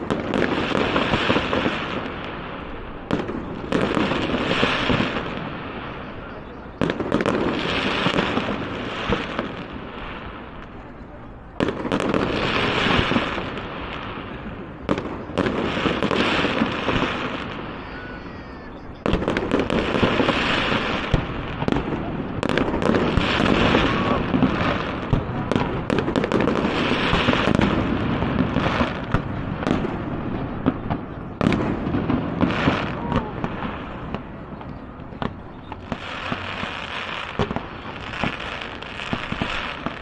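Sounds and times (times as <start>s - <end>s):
firework crackling: 0.0s - 40.0s.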